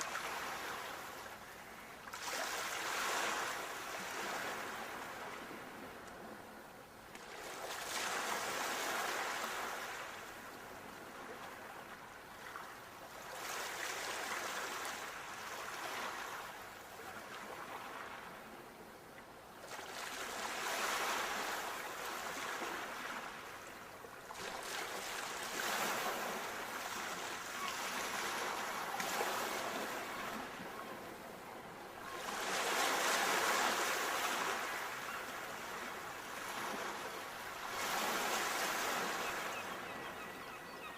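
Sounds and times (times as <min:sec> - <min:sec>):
sea waves breaking on shore: 0:00.0 - 0:06.5, 0:07.1 - 0:18.6, 0:19.6 - 0:40.9.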